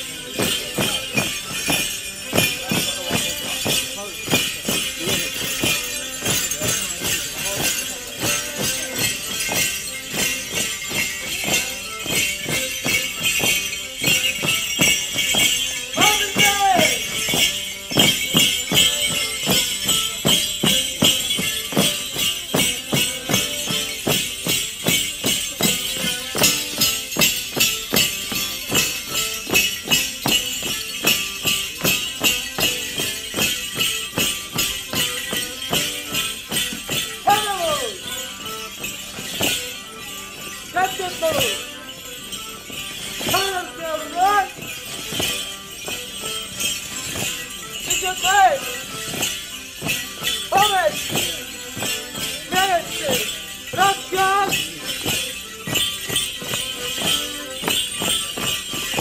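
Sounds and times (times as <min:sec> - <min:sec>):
boot bells jingling: 0:00.0 - 0:59.0
folk dance music: 0:00.0 - 0:59.0.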